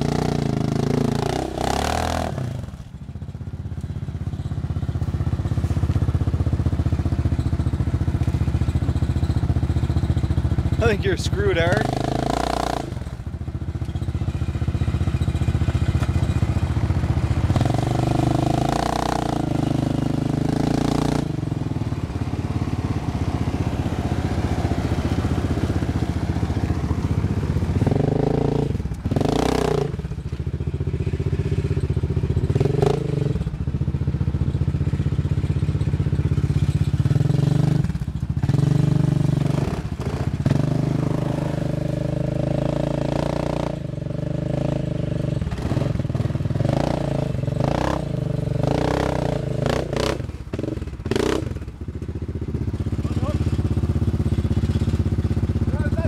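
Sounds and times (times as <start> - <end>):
atv engines revving: 0.0 - 56.0.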